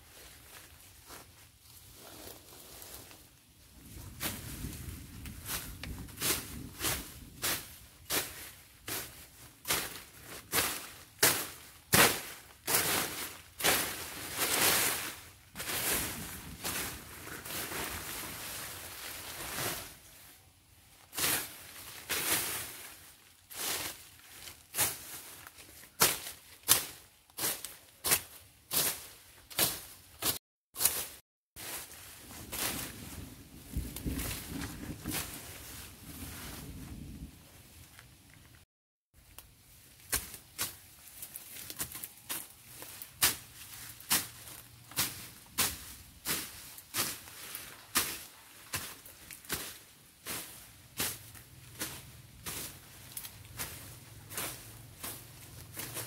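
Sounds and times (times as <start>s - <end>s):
dry leaves rustling: 0.0s - 38.6s, 39.2s - 56.0s
machete swishing through grass: 4.1s - 20.4s, 21.0s - 36.8s, 39.9s - 56.0s.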